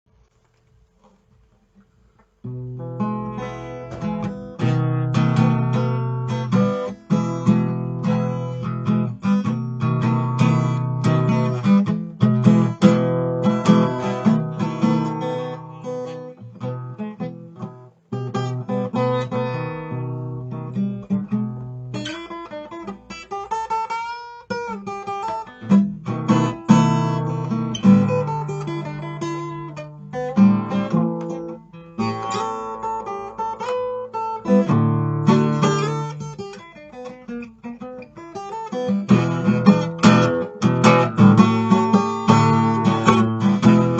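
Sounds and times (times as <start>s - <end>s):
acoustic guitar playing blues: 2.4s - 43.9s.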